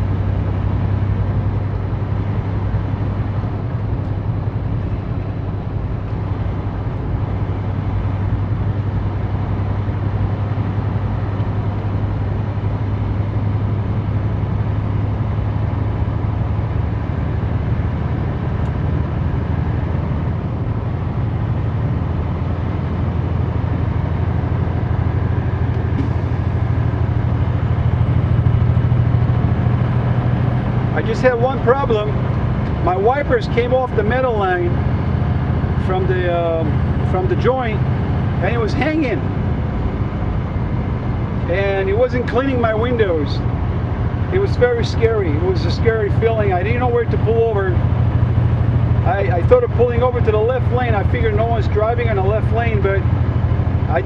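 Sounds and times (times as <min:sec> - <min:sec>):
road noise: 0:00.0 - 0:54.0
truck diesel engine hum: 0:00.0 - 0:54.0.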